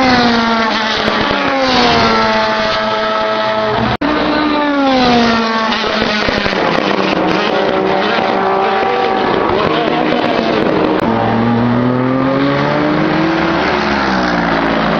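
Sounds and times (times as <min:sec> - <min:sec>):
race cars passing at speed: 0:00.0 - 0:14.9.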